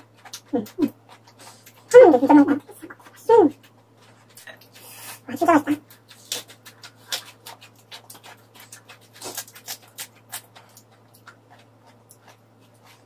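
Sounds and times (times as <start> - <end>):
wet chewing crunches: 0.0 - 13.0.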